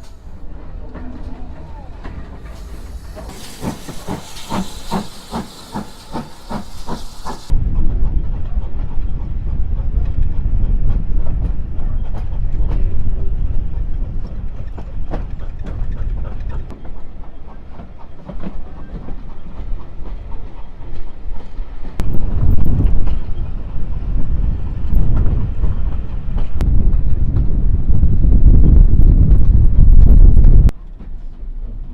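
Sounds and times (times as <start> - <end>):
wheels clicking on track: 0.0 - 27.5
steam train rumbling: 0.0 - 31.9.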